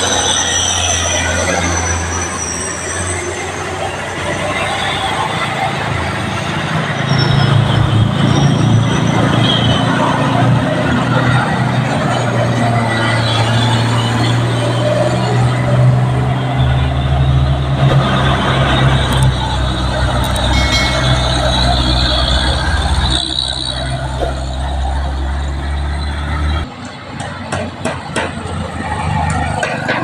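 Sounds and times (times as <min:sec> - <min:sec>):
heavy truck engine droning: 0:00.0 - 0:30.0
road noise: 0:00.0 - 0:30.0.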